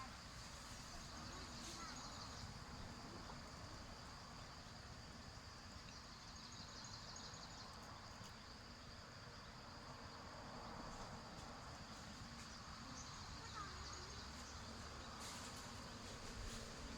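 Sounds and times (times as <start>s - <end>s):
faint insect chorus: 0.0s - 16.9s.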